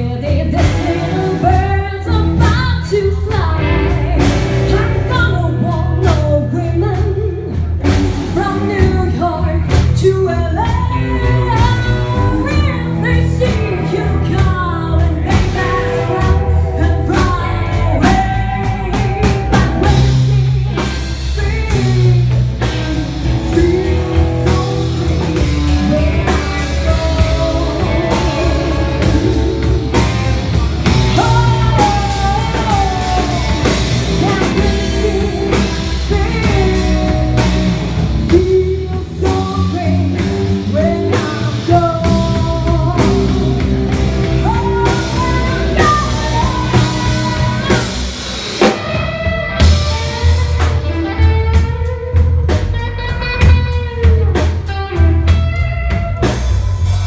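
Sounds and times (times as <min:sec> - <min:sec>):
blues band playing: 0:00.0 - 0:57.0.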